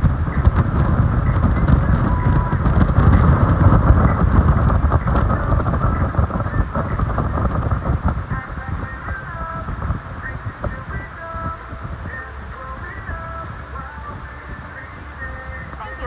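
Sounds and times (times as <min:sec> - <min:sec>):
water rushing from boat wake: 0:00.0 - 0:16.0
wind buffeting microphone: 0:00.0 - 0:16.0.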